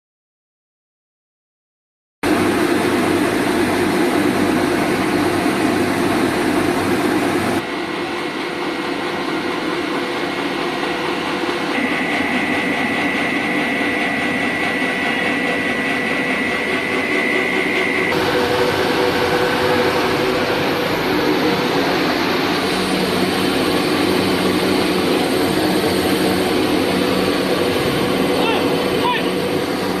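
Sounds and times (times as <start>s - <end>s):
extruder machine running: 2.2s - 30.0s
high whine: 2.2s - 30.0s.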